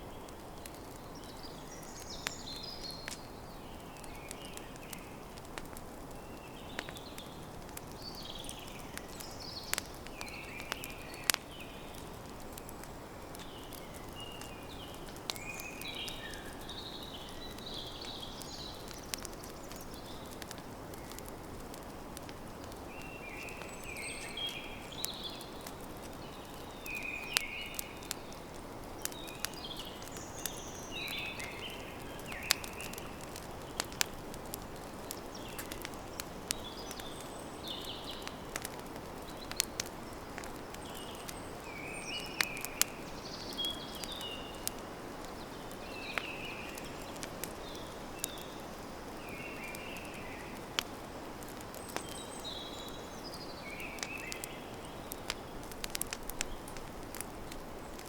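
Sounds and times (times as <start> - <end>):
campfire crackling and popping: 0.0 - 58.0
birds chirping: 6.1 - 21.9, 22.6 - 57.2.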